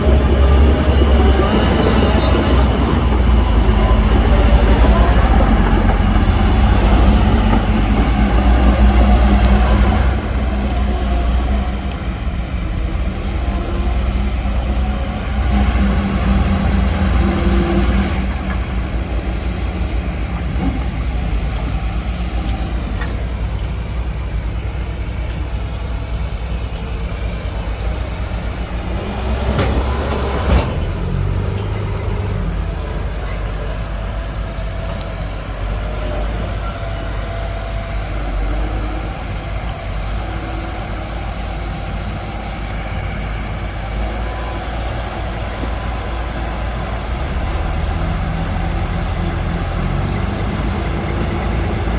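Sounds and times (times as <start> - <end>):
diesel machinery engines: 0.0 - 51.9.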